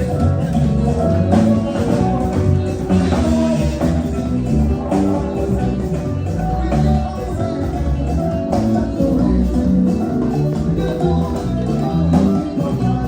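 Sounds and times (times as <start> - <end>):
bass line: 0.0 - 13.0
live band playing: 0.0 - 13.0.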